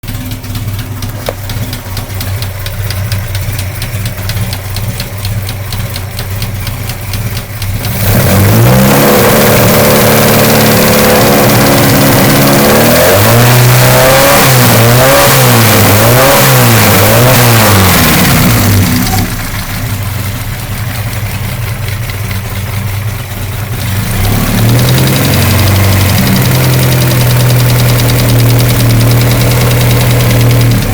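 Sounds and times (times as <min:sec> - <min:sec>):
car engine revving: 0:00.0 - 0:30.9
engine knocking: 0:00.0 - 0:30.9.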